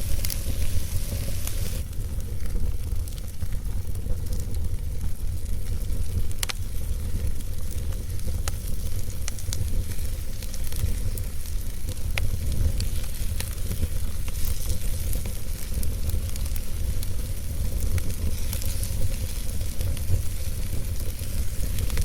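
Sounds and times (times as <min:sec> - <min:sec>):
campfire crackling and popping: 0:00.0 - 0:22.0
fire hissing and rumbling: 0:00.0 - 0:22.0.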